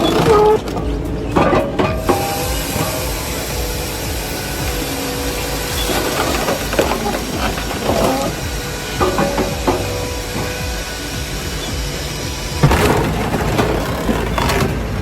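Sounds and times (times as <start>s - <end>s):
heavy machinery din: 0.0s - 15.0s.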